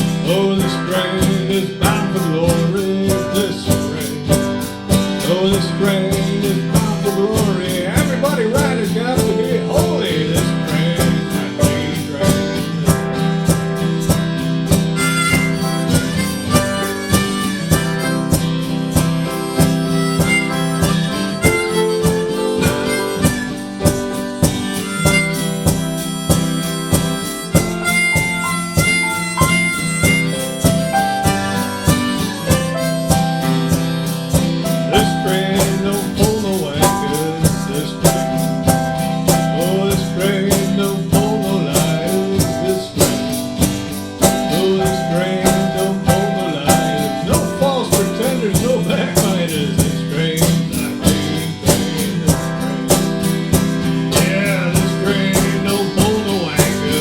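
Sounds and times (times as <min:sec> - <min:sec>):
acoustic guitar strumming: 0:00.0 - 0:57.0
harmonica melody: 0:00.0 - 0:57.0.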